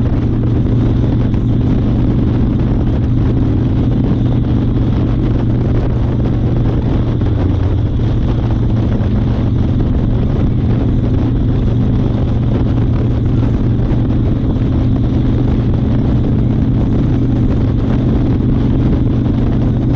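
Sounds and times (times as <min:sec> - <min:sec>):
motorcycle engine running: 0:00.0 - 0:19.9
wind rushing over microphone: 0:00.0 - 0:19.9.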